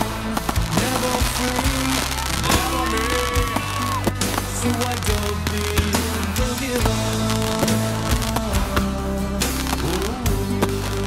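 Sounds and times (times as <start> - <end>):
firework shells bursting: 0.0 - 11.0
music with held tones and bass: 0.0 - 11.0.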